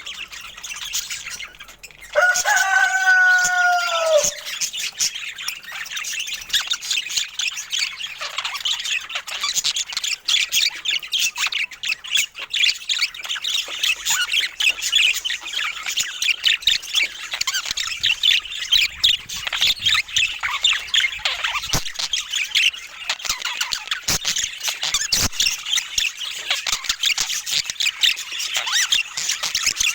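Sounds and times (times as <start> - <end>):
budgerigars chattering: 0.0 - 29.9.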